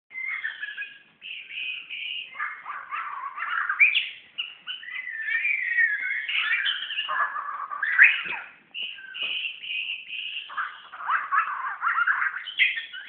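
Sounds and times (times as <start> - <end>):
bird singing varied phrases: 0.1 - 13.0.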